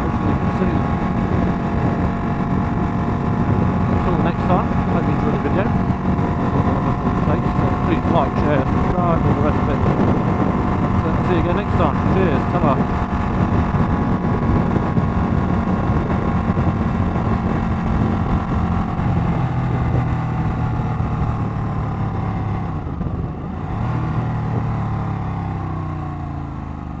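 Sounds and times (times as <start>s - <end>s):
wind rush: 0.0s - 25.8s
motorcycle engine running: 0.0s - 27.0s.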